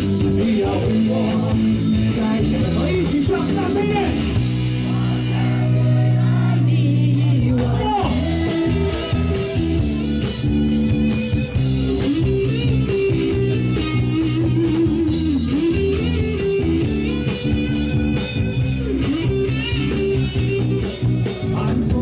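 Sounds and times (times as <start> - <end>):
electric guitar lead melody: 0.0 - 22.0
rock band playing: 0.0 - 22.0.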